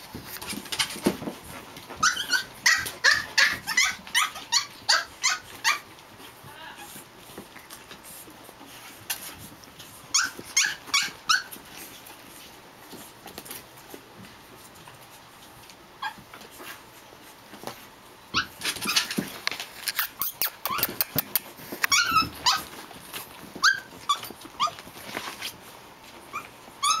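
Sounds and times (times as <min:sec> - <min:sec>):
puppies yipping and squeaking: 0:00.1 - 0:13.9, 0:15.6 - 0:17.3, 0:18.2 - 0:27.0.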